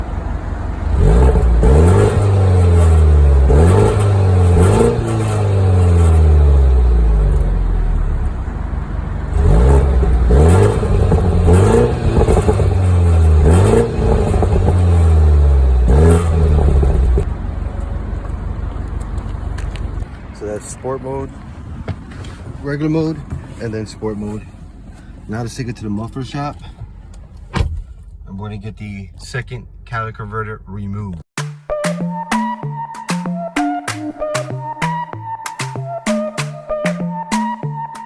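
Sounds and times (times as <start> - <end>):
car engine revving: 0.0 - 30.7.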